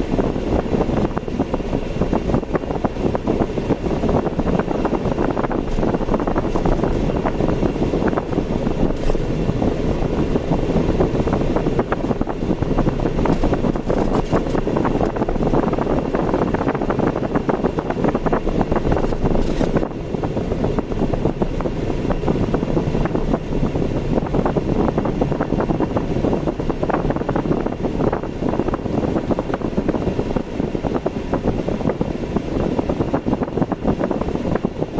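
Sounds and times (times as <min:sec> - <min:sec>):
tyre and engine rumble: 0:00.0 - 0:34.9.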